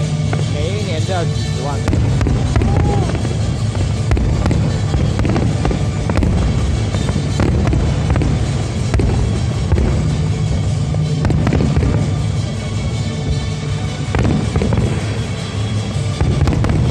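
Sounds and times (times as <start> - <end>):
fireworks bangs and cracks: 0.0 - 16.9
loud show music: 0.0 - 16.9
low rumble: 0.0 - 16.9.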